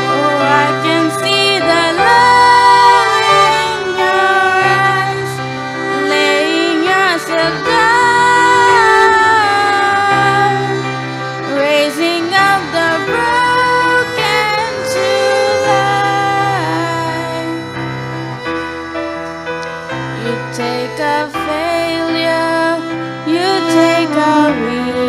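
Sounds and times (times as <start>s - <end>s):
woman singing: 0.0s - 17.6s, 20.2s - 25.0s
digital piano chords: 0.0s - 25.0s
violin melody: 0.0s - 25.0s.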